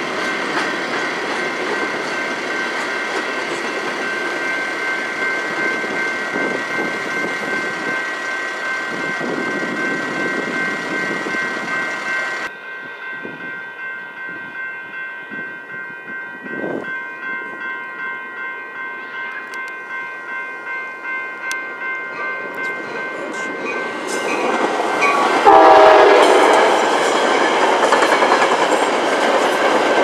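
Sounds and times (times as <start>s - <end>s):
crossing warning bell ringing: 0.0s - 30.0s.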